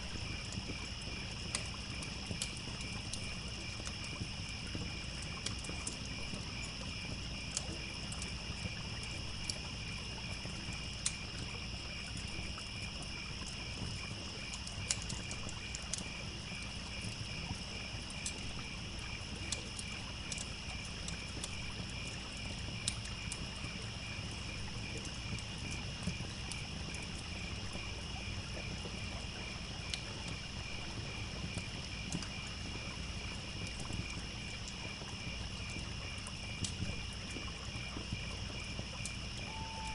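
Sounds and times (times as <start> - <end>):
crackling wood fire: 0.0 - 39.9
crickets chirping: 0.0 - 39.9
trickling stream: 0.0 - 39.9.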